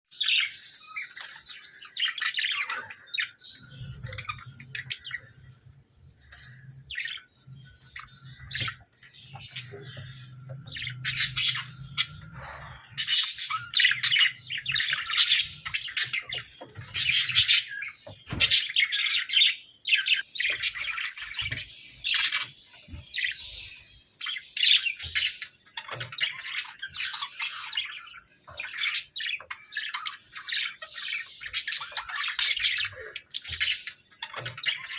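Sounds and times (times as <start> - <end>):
budgerigars chirping and chattering: 0.1 - 34.9.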